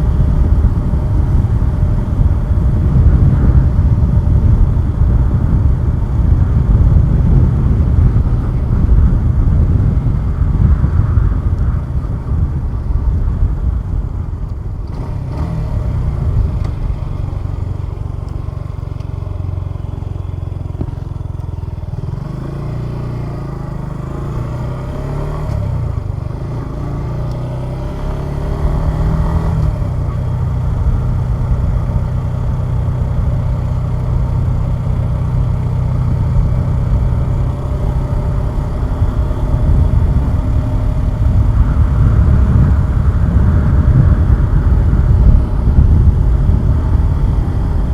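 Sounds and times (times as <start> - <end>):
motorcycle engine: 0.0 - 47.9
wind buffeting microphone: 0.0 - 47.9.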